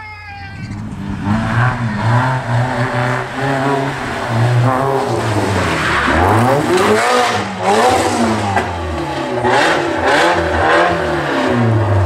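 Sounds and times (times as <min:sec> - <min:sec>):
car engine revving: 0:00.5 - 0:12.0.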